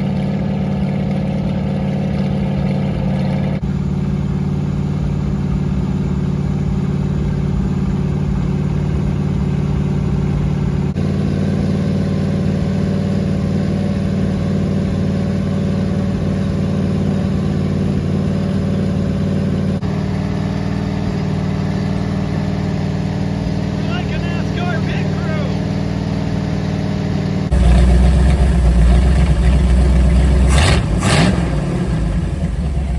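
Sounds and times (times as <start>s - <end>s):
open-pipe engine running: 0.0s - 32.9s.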